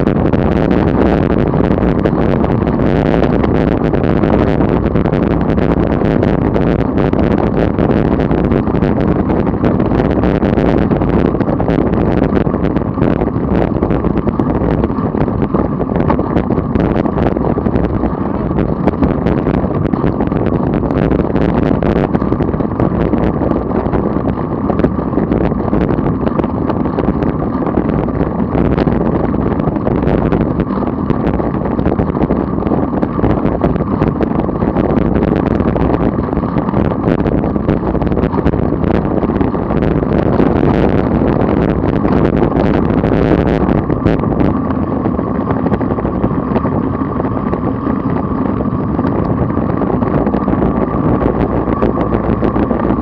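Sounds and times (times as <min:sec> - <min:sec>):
faint buffeting clicks: 0:00.0 - 0:53.0
wind noise on microphone: 0:00.0 - 0:53.0.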